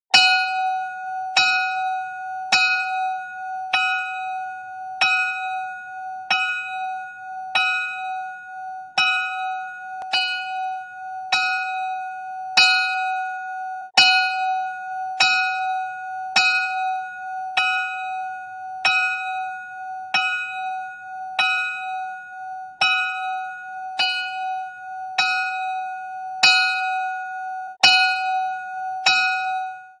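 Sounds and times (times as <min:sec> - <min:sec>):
bell ringing slowly: 0:00.1 - 0:30.0.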